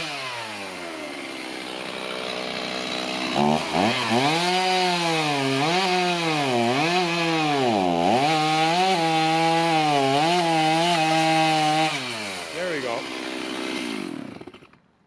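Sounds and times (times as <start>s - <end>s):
electric chainsaw cutting log: 0.0s - 14.9s.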